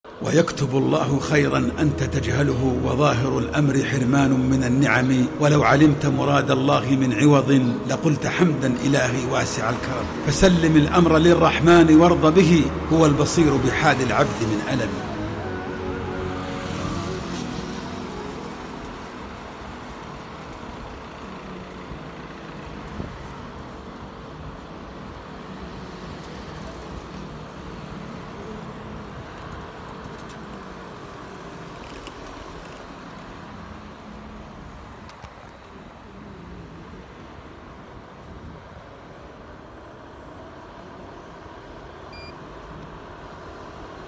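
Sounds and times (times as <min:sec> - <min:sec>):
city traffic noise: 0:00.0 - 0:44.0.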